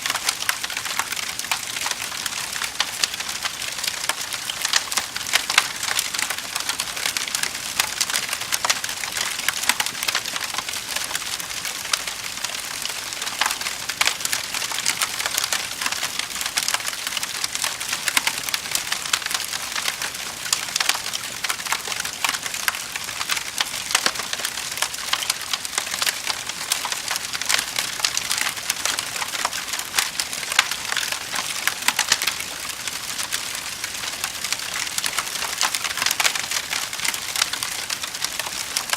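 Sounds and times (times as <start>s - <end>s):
wood fire crackling: 0.0s - 38.9s
fire pops and snaps: 0.1s - 33.5s, 34.2s - 38.9s.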